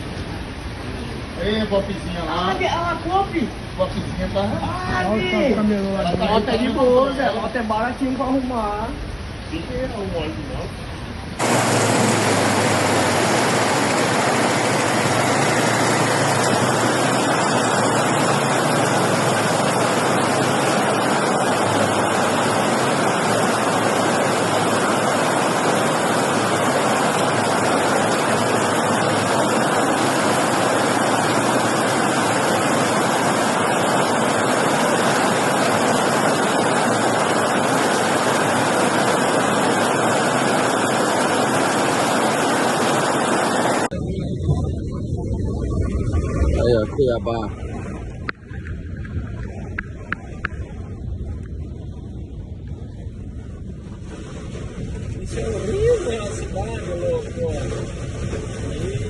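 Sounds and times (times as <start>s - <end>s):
heavy rain downpour: 0.0s - 45.6s, 55.0s - 59.0s
running water: 0.0s - 59.0s.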